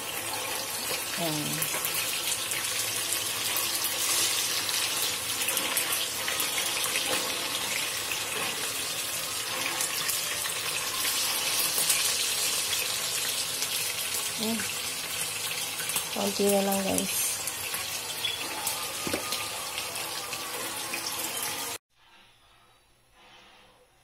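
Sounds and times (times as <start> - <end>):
sausages sizzling in oil: 0.0 - 21.8.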